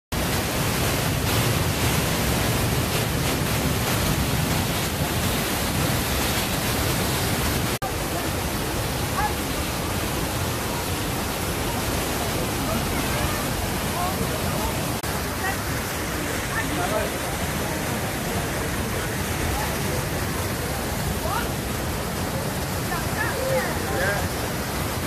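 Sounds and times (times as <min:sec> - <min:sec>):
waterfall crashing into pool: 0:00.2 - 0:25.0.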